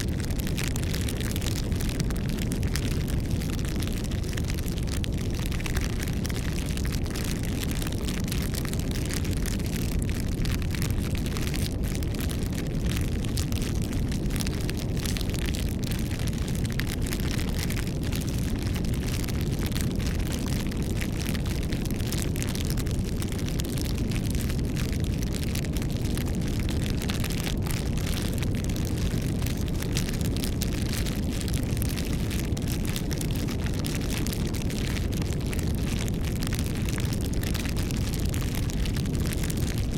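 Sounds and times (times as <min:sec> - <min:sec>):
campfire flames rumbling: 0:00.0 - 0:39.9
fire crackles and snaps: 0:00.0 - 0:39.9.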